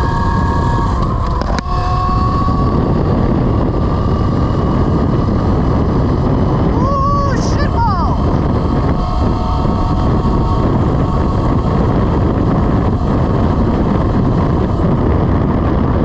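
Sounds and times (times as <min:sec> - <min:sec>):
faint steady whine: 0:00.0 - 0:16.0
wind roaring over microphone: 0:00.0 - 0:16.0.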